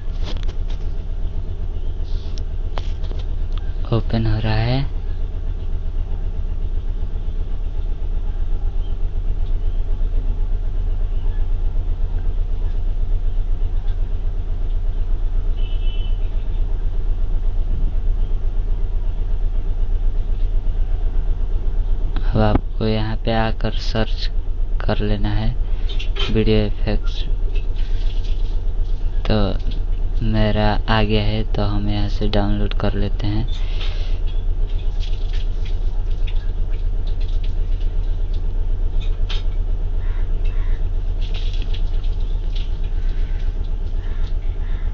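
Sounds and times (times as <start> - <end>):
loud low hum: 0.0 - 44.9
low background rumble: 0.0 - 44.9.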